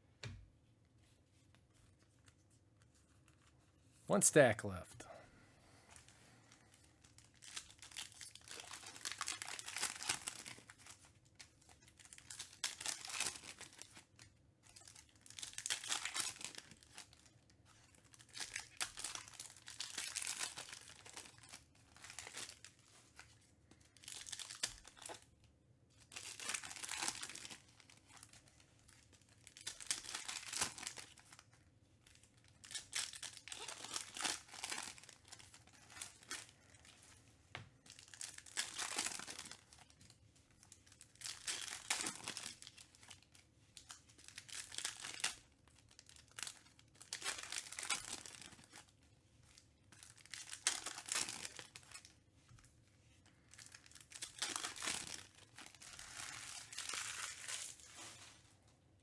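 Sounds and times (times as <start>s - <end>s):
foil wrappers crinkling: 5.9s - 25.3s, 26.0s - 37.2s, 37.9s - 52.2s, 53.3s - 58.5s.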